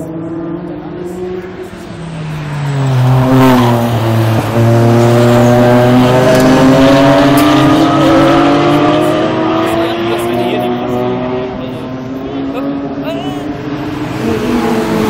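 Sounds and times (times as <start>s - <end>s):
race car engines: 0.0s - 15.0s
race car passing close: 0.0s - 15.0s.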